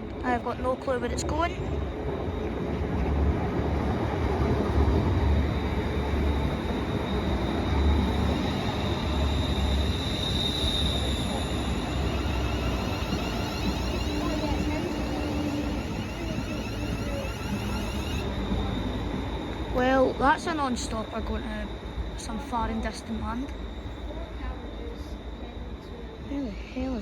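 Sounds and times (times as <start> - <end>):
thin high whine: 0.0 - 27.0
train wheels rumbling on rail: 0.0 - 27.0.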